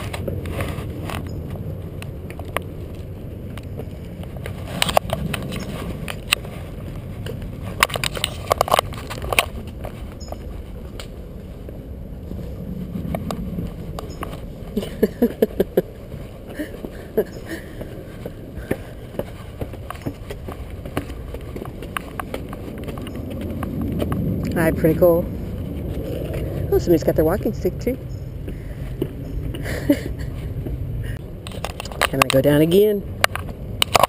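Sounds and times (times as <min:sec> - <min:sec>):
footsteps on wooden planks: 0:00.0 - 0:26.7, 0:28.3 - 0:32.1
running footfalls: 0:00.0 - 0:26.7, 0:28.3 - 0:32.0
steady low rumble: 0:00.0 - 0:34.0.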